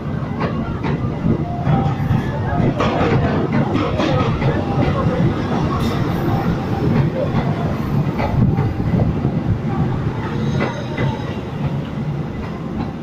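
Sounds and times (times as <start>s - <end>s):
train wheels rumbling on track: 0.0s - 13.0s
wheels clicking over rail joints: 0.4s - 13.0s.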